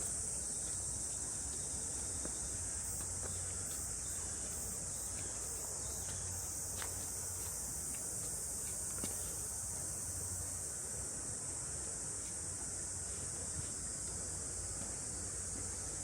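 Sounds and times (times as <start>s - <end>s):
cicadas buzzing: 0.0s - 15.9s.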